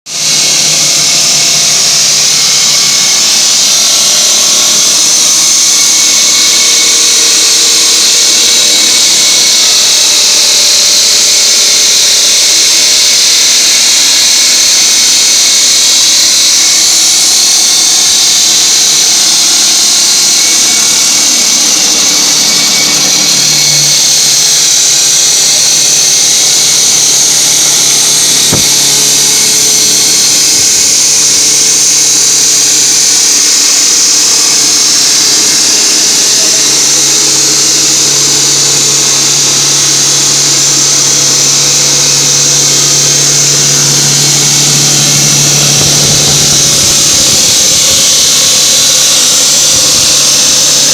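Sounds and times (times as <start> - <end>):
saw grinding concrete: 0.1 - 50.9.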